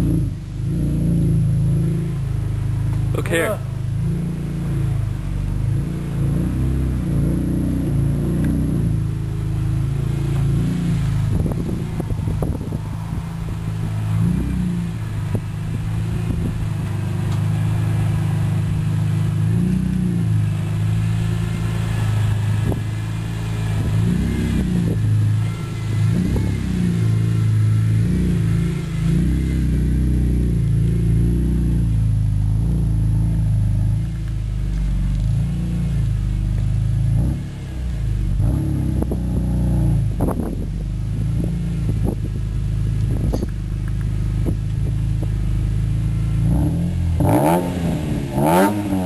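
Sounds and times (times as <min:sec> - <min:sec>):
car engine idling: 0:00.0 - 0:49.0
engine throttle blips: 0:00.0 - 0:49.0.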